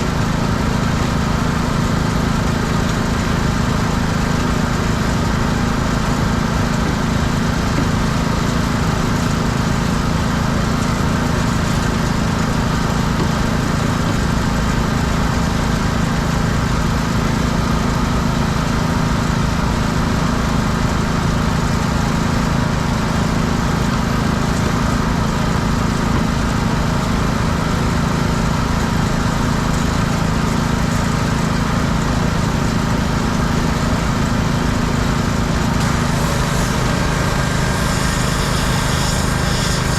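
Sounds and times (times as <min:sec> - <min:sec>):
pressure washer engine drone: 0:00.0 - 0:39.9.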